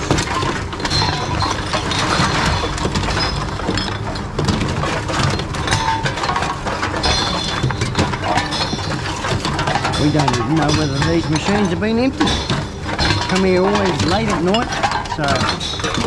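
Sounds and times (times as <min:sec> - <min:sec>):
bottles and cans clinking: 0:00.0 - 0:16.0.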